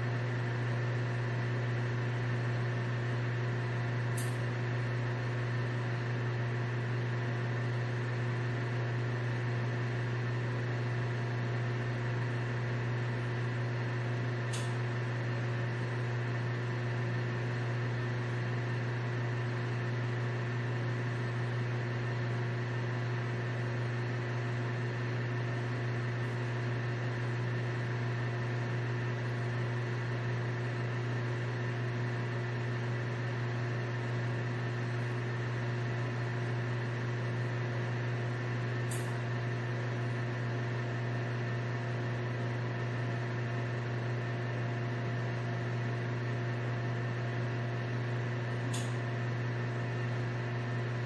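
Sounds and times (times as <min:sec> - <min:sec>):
refrigerator humming: 0:00.0 - 0:51.0.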